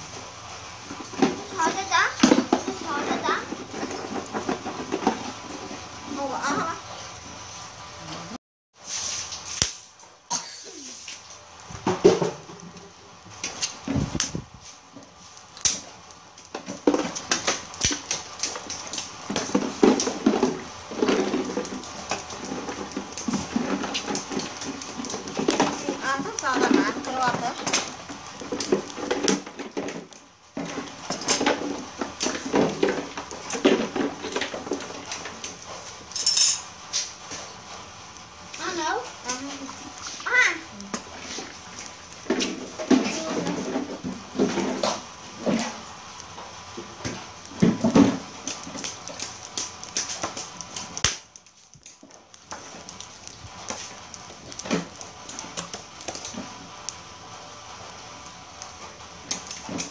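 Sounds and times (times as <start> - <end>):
food sizzling and crackling on grill: 0.0 - 59.9.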